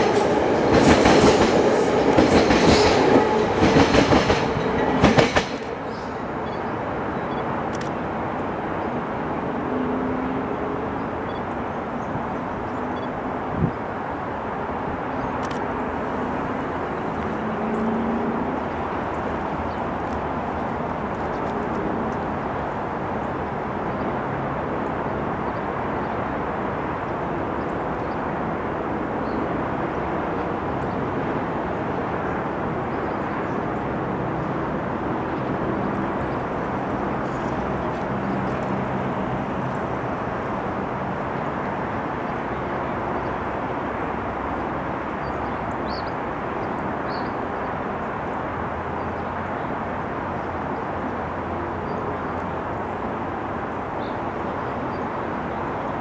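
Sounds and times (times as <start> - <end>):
distant engines and traffic: 0.0 - 56.0.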